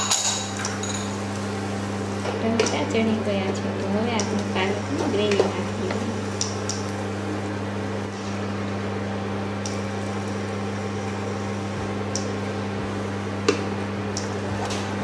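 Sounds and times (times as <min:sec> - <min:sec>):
cooktop fan humming: 0:00.0 - 0:15.0.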